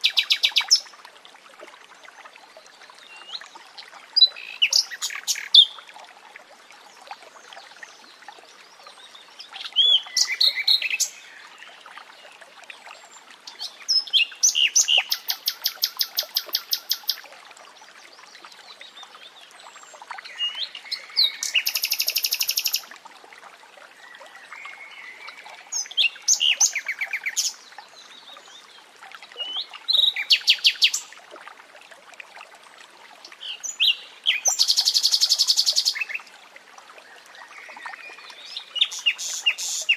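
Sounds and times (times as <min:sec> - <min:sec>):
running water murmur: 0:00.0 - 0:39.9.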